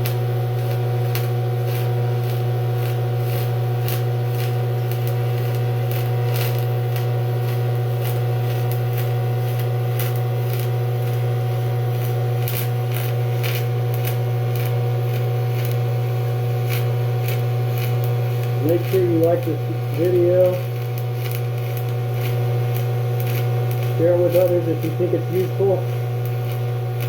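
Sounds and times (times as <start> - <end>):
welding arc buzzing and crackling: 0.0 - 27.0.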